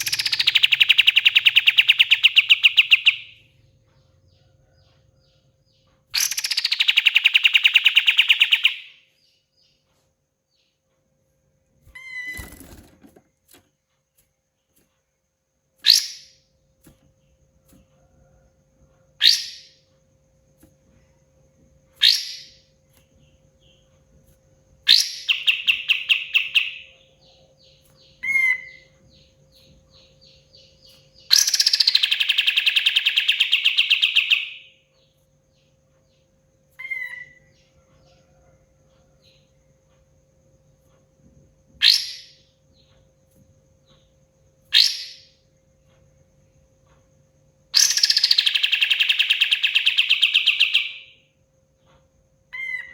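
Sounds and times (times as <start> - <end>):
songbird calling and trilling: 0.0 - 11.0, 15.8 - 16.6, 17.2 - 52.9
faint steady hum: 0.0 - 52.9.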